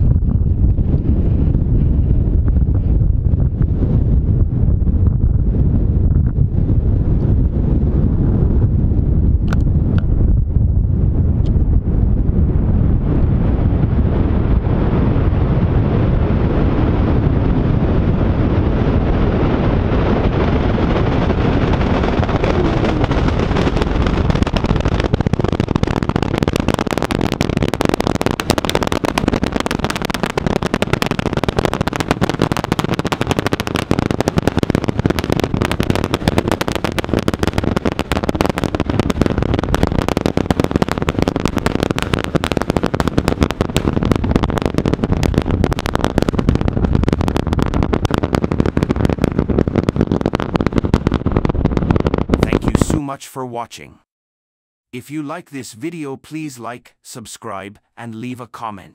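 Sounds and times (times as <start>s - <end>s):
rocket engines rumbling and crackling: 0.0s - 53.9s.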